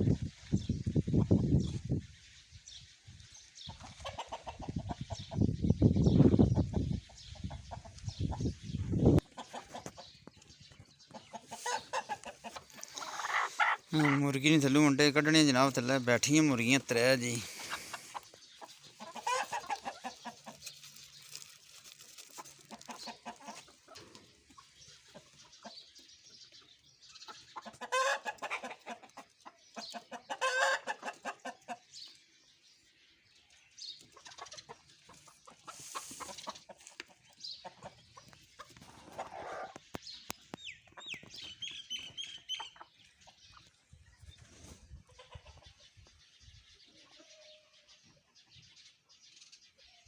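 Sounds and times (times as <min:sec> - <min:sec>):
hens clucking: 0:03.7 - 0:32.2, 0:34.0 - 0:46.2.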